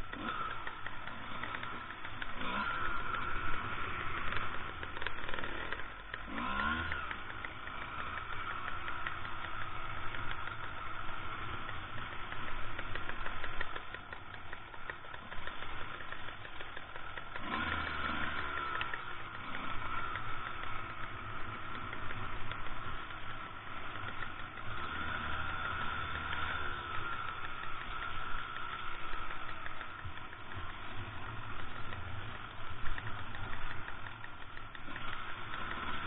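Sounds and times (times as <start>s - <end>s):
two-stroke motorcycle engines: 0.0s - 36.0s.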